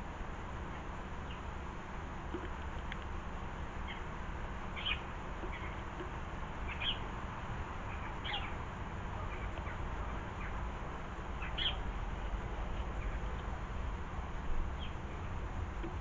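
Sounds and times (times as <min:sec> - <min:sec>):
low background rumble: 0:00.0 - 0:16.0
small birds chirping: 0:00.7 - 0:01.5, 0:02.3 - 0:07.2, 0:07.8 - 0:13.7, 0:14.7 - 0:16.0.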